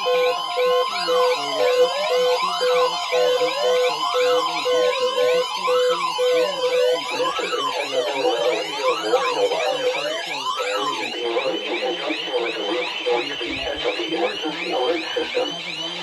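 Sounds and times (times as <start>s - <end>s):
wailing siren sweeps: 0.0s - 16.0s
fast beeping tone: 1.1s - 16.0s.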